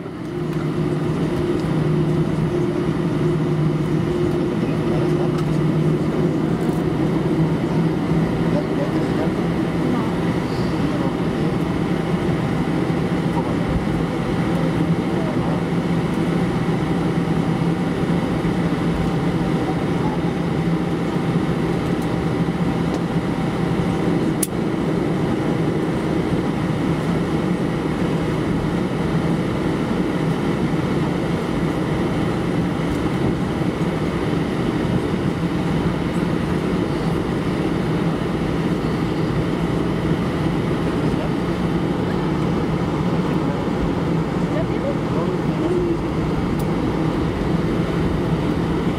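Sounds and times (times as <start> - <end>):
aircraft engines idling drone: 0.0 - 48.9.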